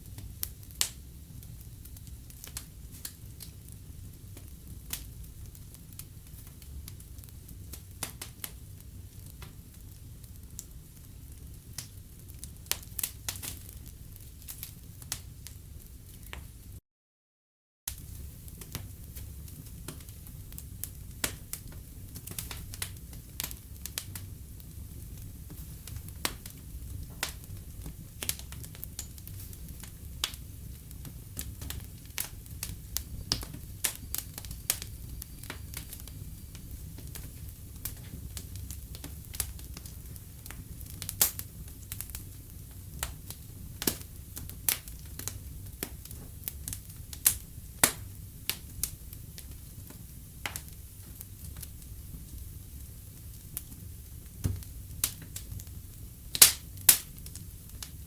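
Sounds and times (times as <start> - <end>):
wood fire crackling and popping: 0.0 - 16.8, 17.9 - 58.0.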